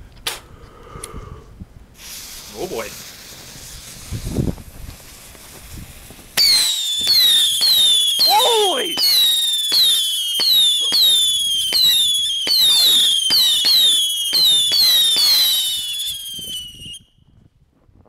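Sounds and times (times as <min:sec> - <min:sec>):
whistling firework cracks: 0:02.0 - 0:17.2.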